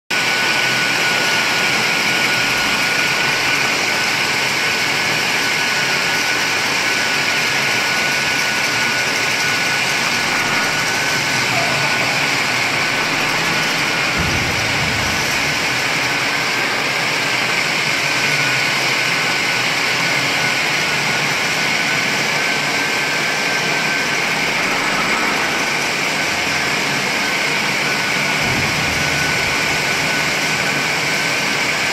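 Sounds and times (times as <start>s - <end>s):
dust extractor running: 0.1s - 31.9s
floor grinder grinding concrete: 0.1s - 31.9s.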